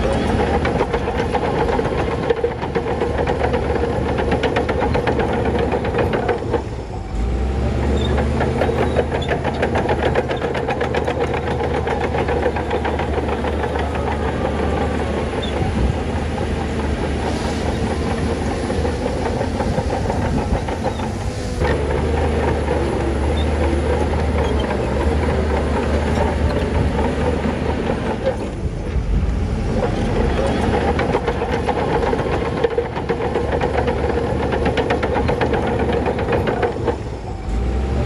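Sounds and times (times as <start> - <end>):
bulldozer engine clattering: 0.0 - 38.0.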